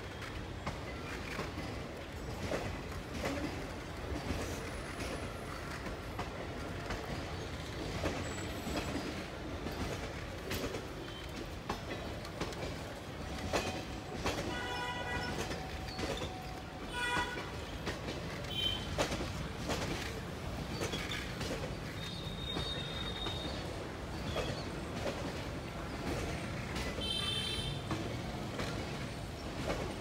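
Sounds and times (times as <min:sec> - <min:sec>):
train coaches rumbling past: 0:00.0 - 0:30.0
wheels clicking over rail joints: 0:00.0 - 0:30.0.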